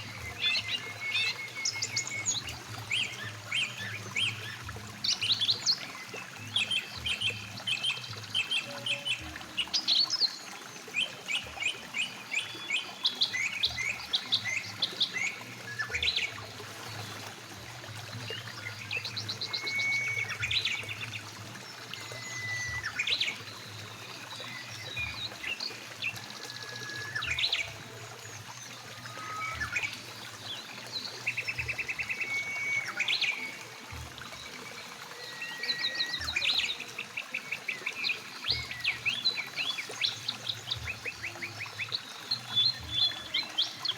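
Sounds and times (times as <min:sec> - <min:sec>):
flowing river water: 0:00.0 - 0:43.9
songbirds chirping and trilling: 0:00.0 - 0:43.9.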